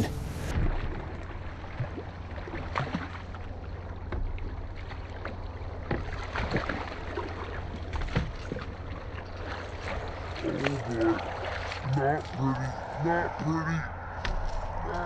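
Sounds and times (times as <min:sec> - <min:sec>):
boat motor hum: 0:00.0 - 0:15.0.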